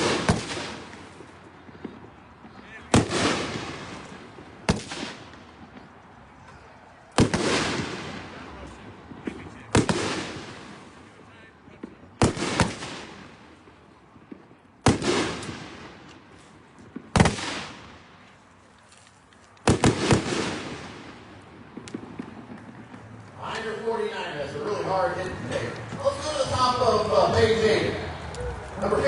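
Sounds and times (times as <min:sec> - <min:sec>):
firework reports: 0:00.0 - 0:18.5, 0:19.6 - 0:29.0.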